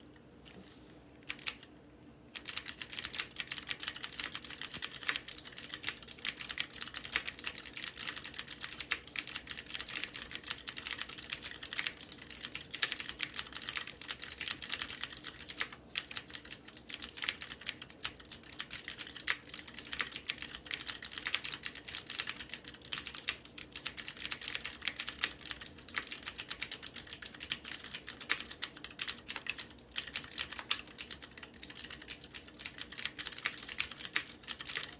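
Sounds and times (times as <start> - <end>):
fast typing on mechanical keyboard: 1.2 - 1.7, 2.3 - 34.9.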